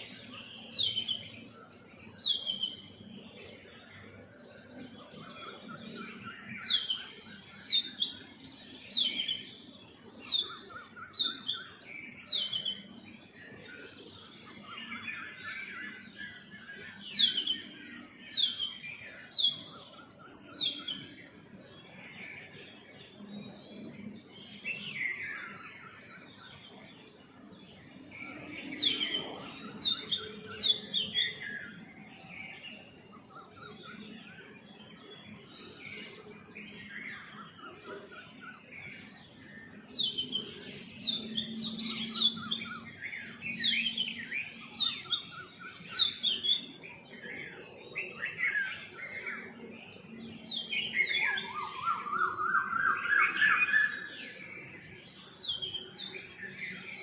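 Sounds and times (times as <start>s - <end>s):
birds chattering softly: 0.0s - 57.0s.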